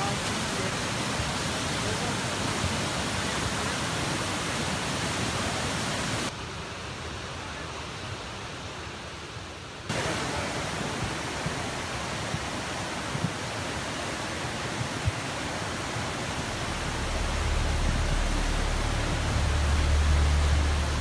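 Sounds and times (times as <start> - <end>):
floodwater rushing through dam: 0.0 - 6.4, 9.9 - 21.0.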